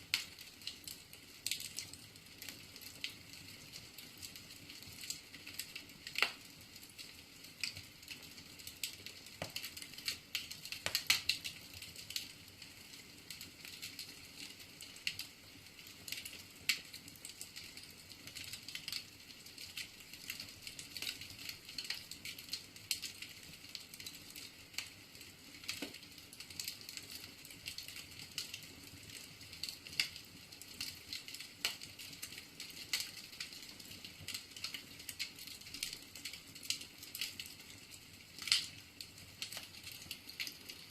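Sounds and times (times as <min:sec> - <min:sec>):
soft fire hiss: 0:00.0 - 0:40.9
wood fire crackling and popping: 0:00.0 - 0:40.9.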